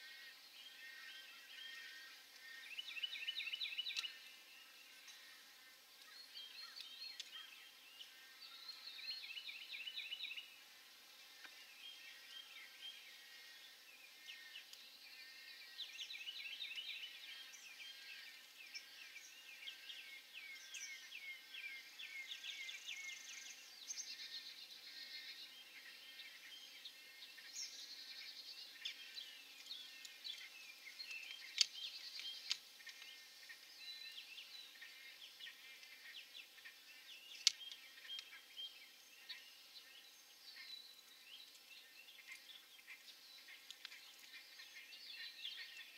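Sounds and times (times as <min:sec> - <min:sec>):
birds chirping in chorus: 0:00.0 - 0:45.9.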